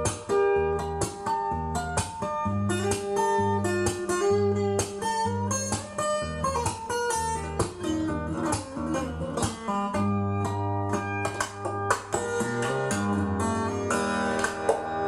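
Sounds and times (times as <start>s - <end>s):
plucked guitar notes: 0.0s - 15.0s.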